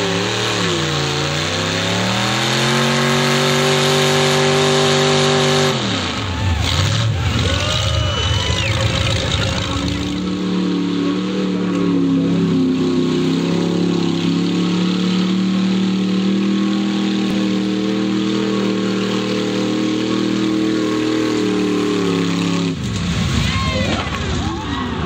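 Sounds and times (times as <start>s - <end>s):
engine at high revs: 0.0s - 23.2s.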